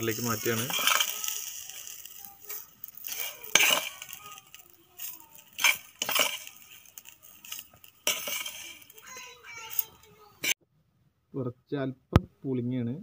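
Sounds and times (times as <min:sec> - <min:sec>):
metal spoon scraping steel: 0:00.0 - 0:10.6.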